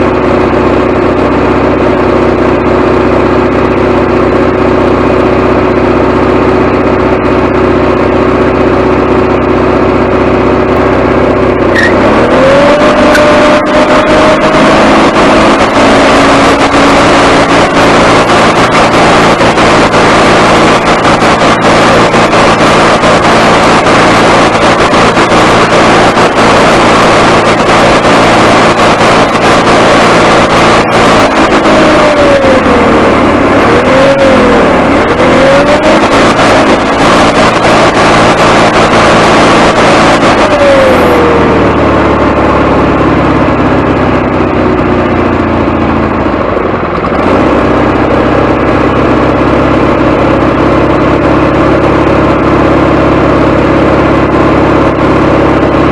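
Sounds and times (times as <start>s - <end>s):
gasoline engine idling and revving: 0.0s - 55.9s.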